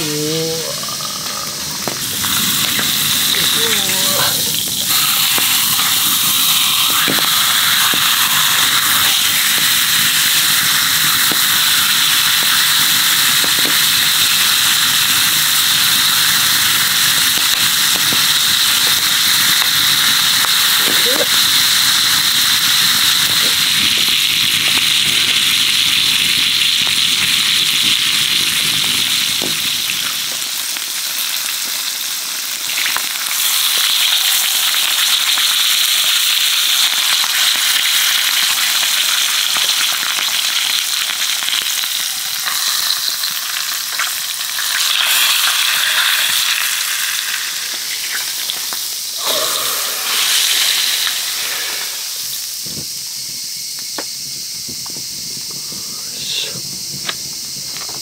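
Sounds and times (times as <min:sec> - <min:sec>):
steak sizzling in frying pan: 0:00.6 - 0:58.0.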